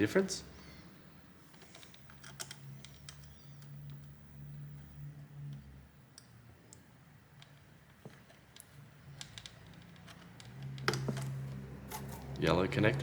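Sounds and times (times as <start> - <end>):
wire connectors clicking: 1.5 - 12.6.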